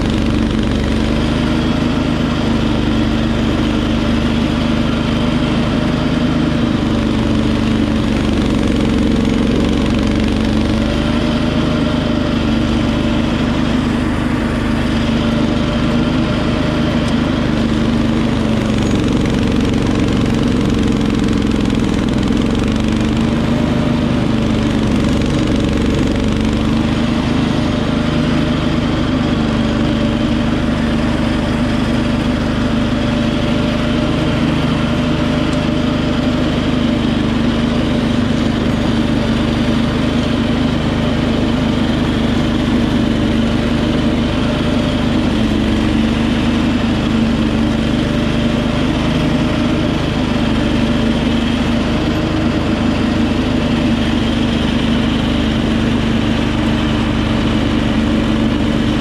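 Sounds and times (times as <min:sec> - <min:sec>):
garden tractor engine running: 0:00.0 - 0:59.0
snowblower clearing snow: 0:00.0 - 0:59.0.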